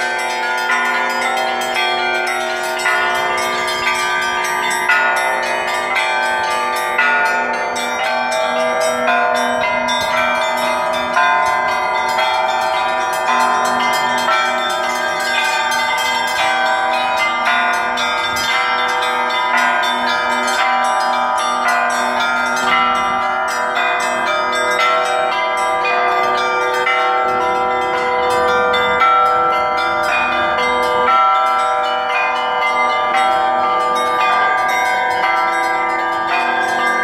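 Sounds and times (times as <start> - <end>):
low bell ringing: 0.0 - 37.0
small bells ringing in patterns: 0.0 - 37.0.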